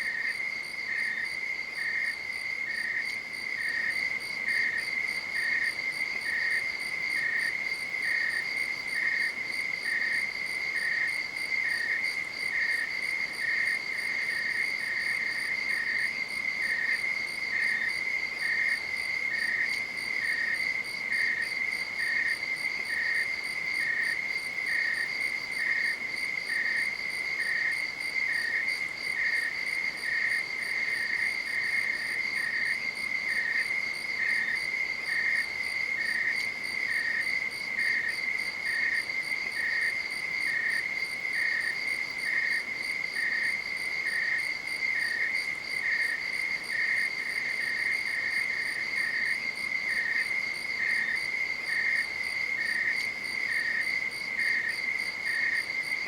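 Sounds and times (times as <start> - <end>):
crickets trilling: 0.0 - 56.0
lower-pitched cricket chirp: 0.0 - 56.0.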